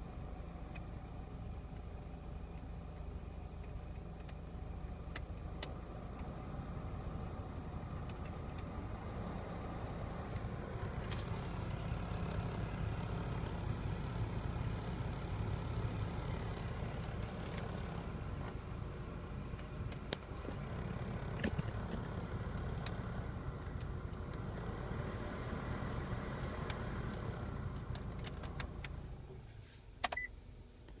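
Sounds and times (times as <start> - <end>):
vehicle engine running: 0.0 - 30.8.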